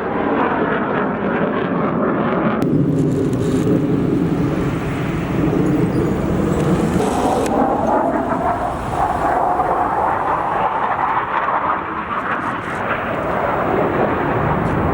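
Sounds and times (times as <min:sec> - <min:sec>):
fighter jet engine roar: 0:00.0 - 0:14.9.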